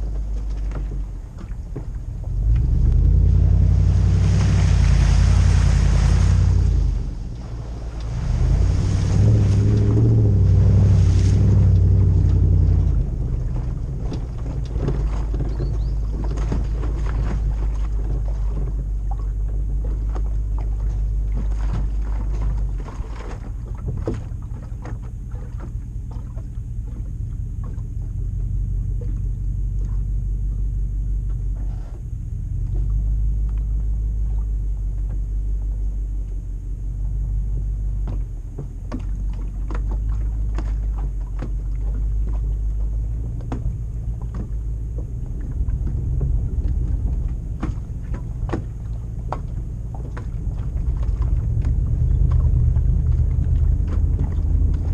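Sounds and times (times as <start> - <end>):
car engine rumbling: 0.0 - 54.9.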